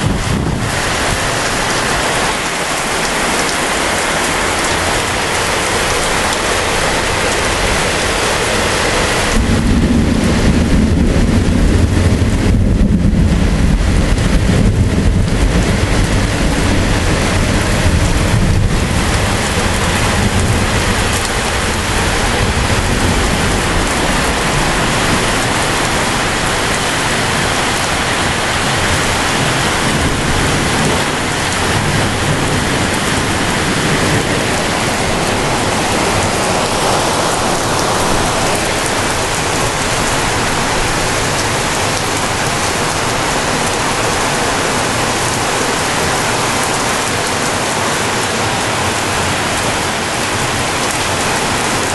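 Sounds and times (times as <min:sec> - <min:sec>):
thunder rumble: 0:00.0 - 0:49.0
heavy rain: 0:00.0 - 0:51.9.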